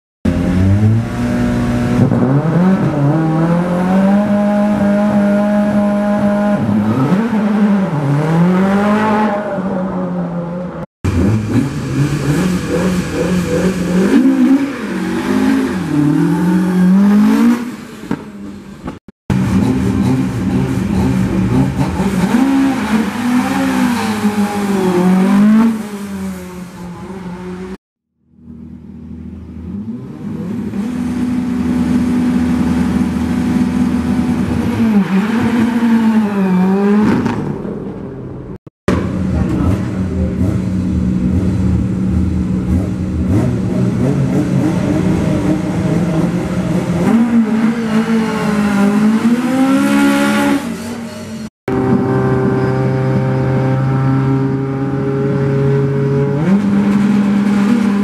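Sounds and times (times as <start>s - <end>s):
rally car engine revving: 0.3s - 27.8s, 28.4s - 58.0s.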